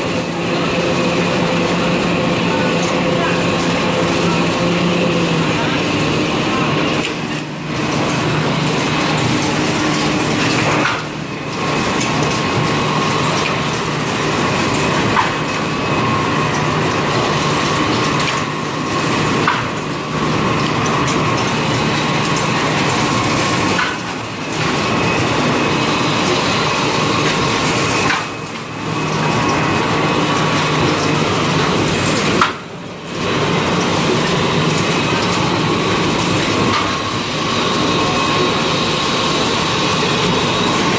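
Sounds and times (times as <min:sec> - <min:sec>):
packing machine running: 0:00.0 - 0:40.9.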